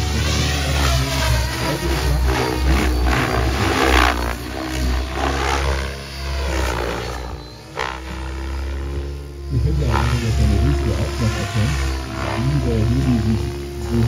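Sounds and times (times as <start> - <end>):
helicopter rotor blades whooshing: 0.0 - 14.0.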